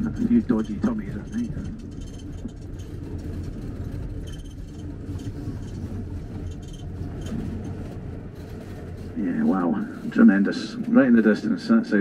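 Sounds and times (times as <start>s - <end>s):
faint light rattles: 0.0s - 11.0s
minibus engine and road noise: 0.0s - 12.0s.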